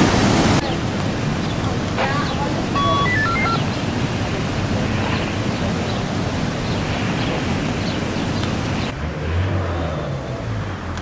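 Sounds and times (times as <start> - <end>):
falling water rushing: 0.0 - 8.9.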